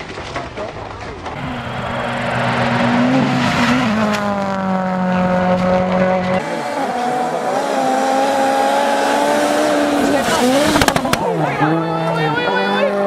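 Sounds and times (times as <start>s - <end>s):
rally car engine at high revs: 1.4s - 13.0s.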